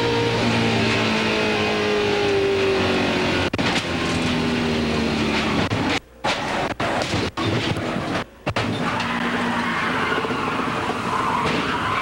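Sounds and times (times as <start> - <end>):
race car engine at speed: 0.0 - 12.0
wind and road noise: 0.0 - 12.0.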